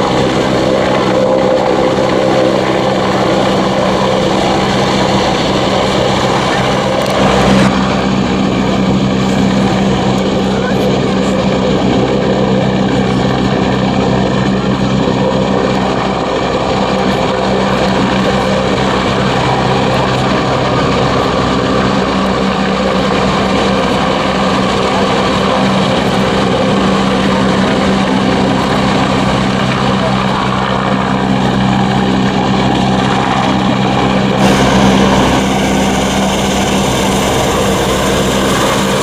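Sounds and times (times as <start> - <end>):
helicopter drone: 0.0 - 39.0.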